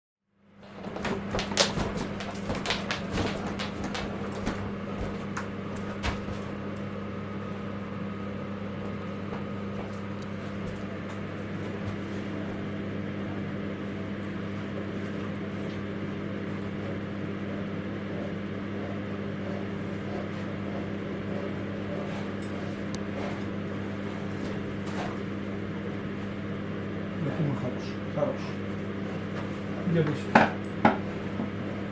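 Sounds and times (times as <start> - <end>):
steady low hum: 0.4 - 31.9.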